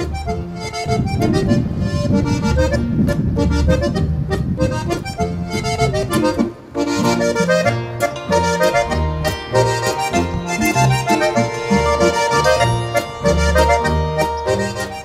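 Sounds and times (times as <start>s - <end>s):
accordion folk tune: 0.0s - 15.0s.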